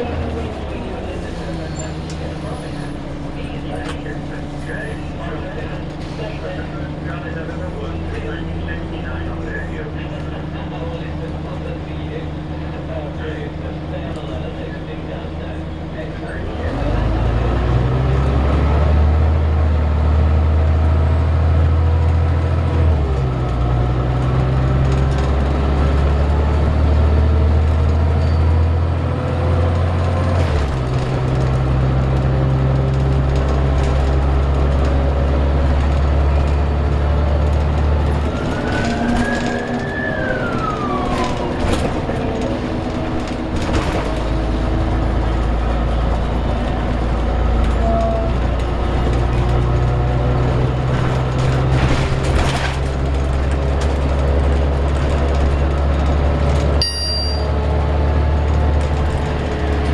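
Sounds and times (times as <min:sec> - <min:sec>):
bus diesel engine drone: 0:00.0 - 0:59.9.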